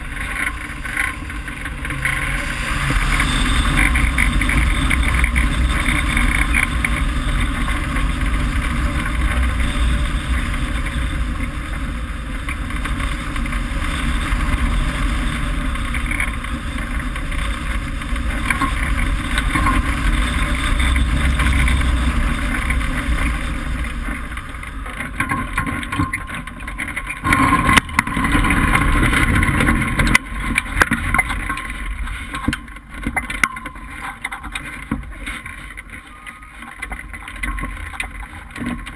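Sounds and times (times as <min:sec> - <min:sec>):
wind rushing over camera: 0:00.0 - 0:36.0
knocks and rattles on grass: 0:00.0 - 0:38.9.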